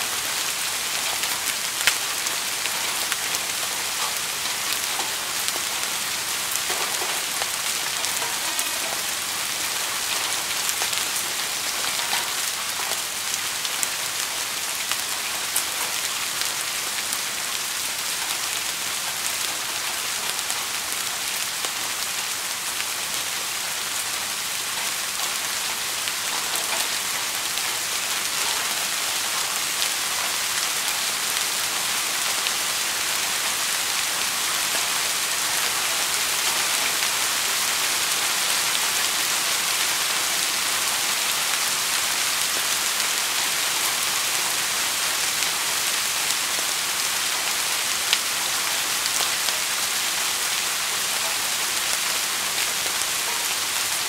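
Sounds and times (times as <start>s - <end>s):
steady rain hiss: 0.0s - 54.0s
faint raindrop ticks: 0.9s - 23.4s, 24.7s - 47.0s.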